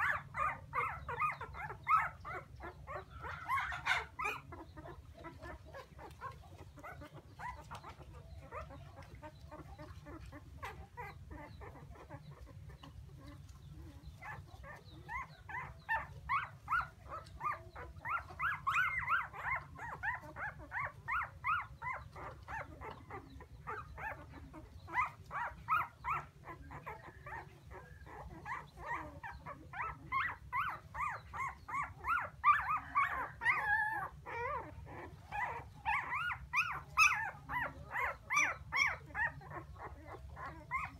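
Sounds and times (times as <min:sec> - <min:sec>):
puppies whining and crying: 0:00.0 - 0:40.9.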